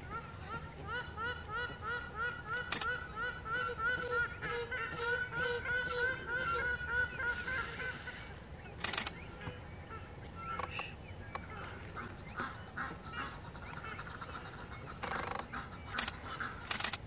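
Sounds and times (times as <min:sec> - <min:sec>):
waterbirds honking and chirping: 0:00.0 - 0:17.0.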